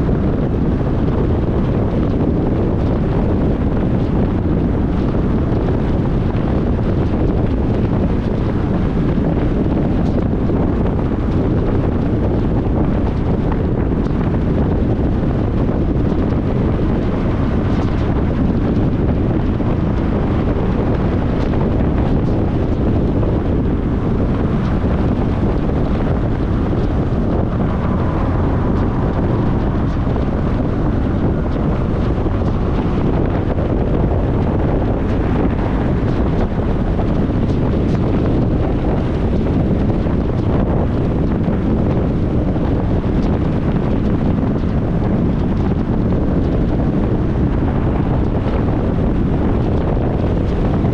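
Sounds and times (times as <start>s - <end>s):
car interior road noise: 0.0s - 50.9s.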